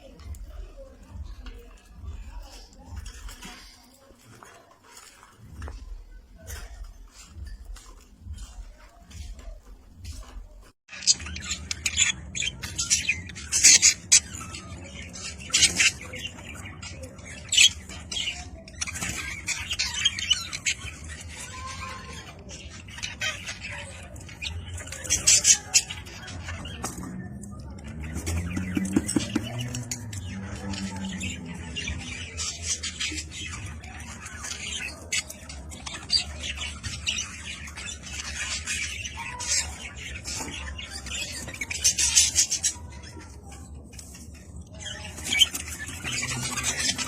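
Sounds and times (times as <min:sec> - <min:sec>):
budgerigars chirping and chattering: 0:00.0 - 0:47.0.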